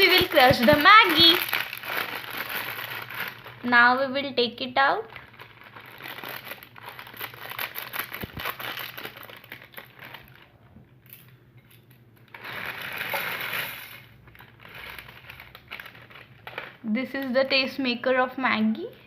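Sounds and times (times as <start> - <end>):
plastic wrapper crinkling: 0.0 - 19.0.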